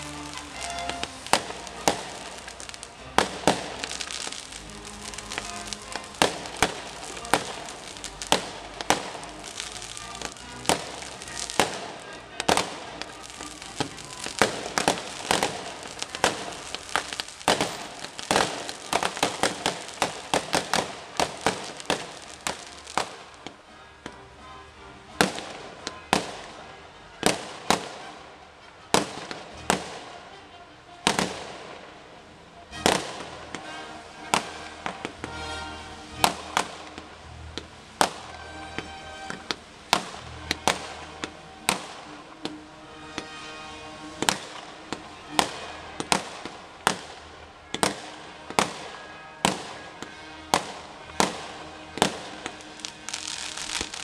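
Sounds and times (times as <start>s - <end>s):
fireworks bangs: 0.0s - 24.2s, 25.1s - 28.2s, 28.9s - 30.2s, 31.0s - 31.8s, 32.8s - 54.0s
fireworks crackling: 0.0s - 54.0s
music playing: 0.0s - 54.0s.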